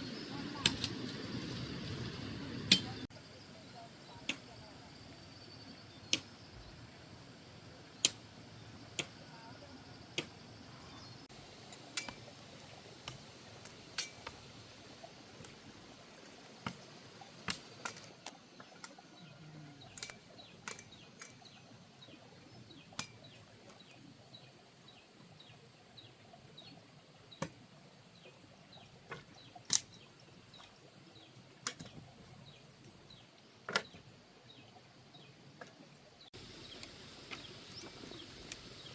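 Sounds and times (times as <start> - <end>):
low steady hiss: 0.0 - 38.9.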